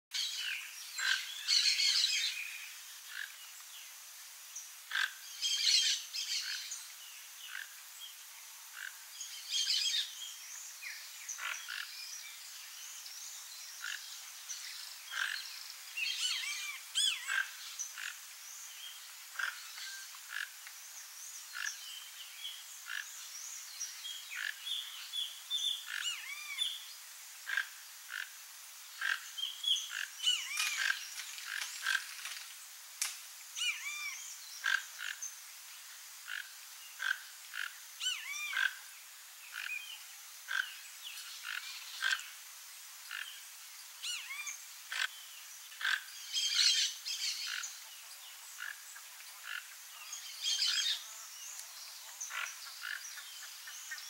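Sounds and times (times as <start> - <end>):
wild birds chirping: 0.1 - 54.0.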